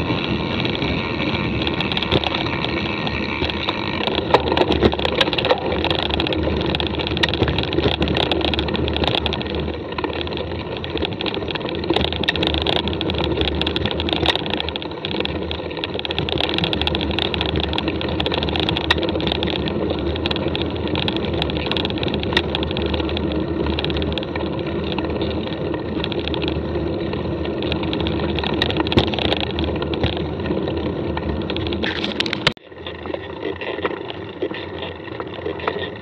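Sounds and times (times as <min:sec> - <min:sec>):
bike rattles and clicks: 0:00.0 - 0:36.0
bike tyre rumble on dirt: 0:00.0 - 0:36.0.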